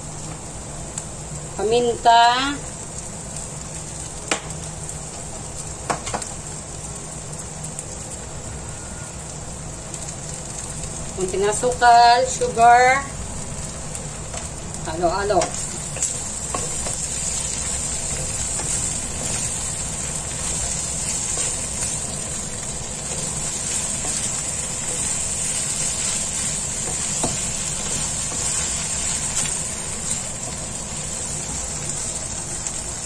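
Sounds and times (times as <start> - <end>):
noodles sizzling in a wok: 0.0 - 33.0.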